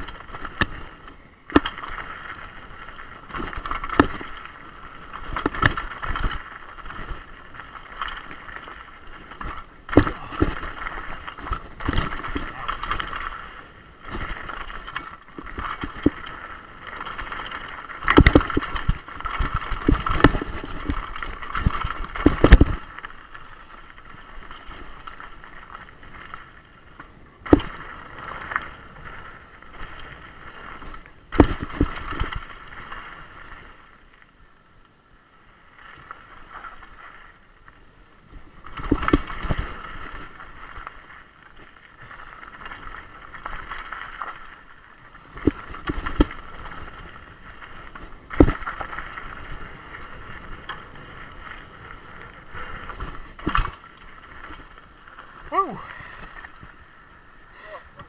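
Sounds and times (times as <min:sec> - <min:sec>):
bike knocking on rocks: 0:00.0 - 0:33.7, 0:38.4 - 0:56.9
tyres crunching over stones: 0:00.0 - 0:34.3, 0:35.8 - 0:58.0
bike rattling: 0:00.0 - 0:58.0.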